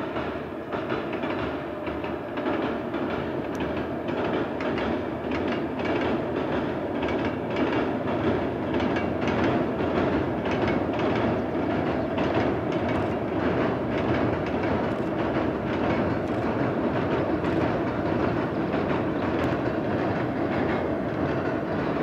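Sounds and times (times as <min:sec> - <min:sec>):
train wheels rolling over bridge: 0:00.0 - 0:22.0
wheels clattering over rail joints: 0:00.0 - 0:22.0.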